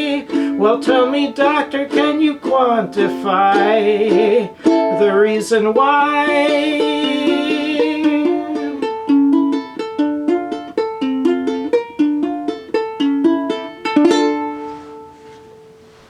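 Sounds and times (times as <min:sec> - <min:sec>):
ukulele chords plucked: 0:00.0 - 0:16.0.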